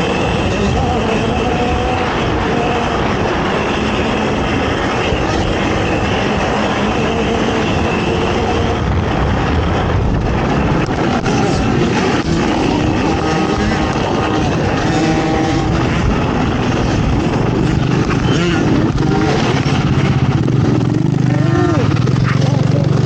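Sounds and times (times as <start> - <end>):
quad bike engine running hard: 0.0 - 23.0.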